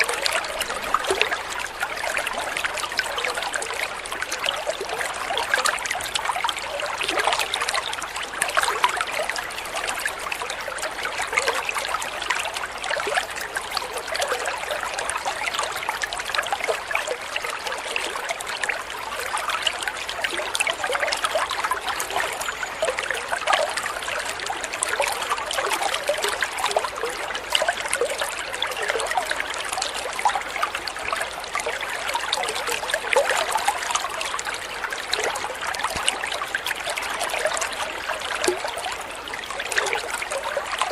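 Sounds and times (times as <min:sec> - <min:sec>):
water trickling and babbling: 0:00.0 - 0:40.9.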